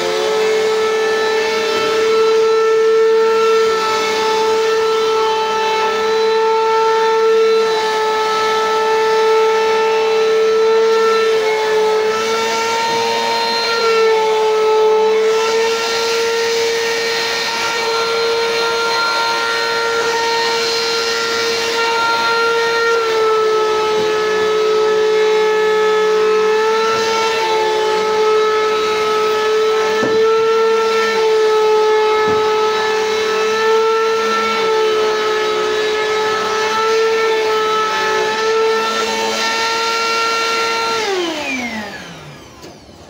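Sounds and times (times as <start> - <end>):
vacuum cleaner whining: 0.0 - 43.0.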